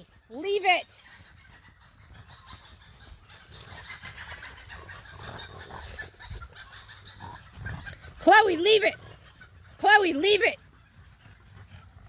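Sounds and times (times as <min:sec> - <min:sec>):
dogs snuffling: 0:00.0 - 0:12.0.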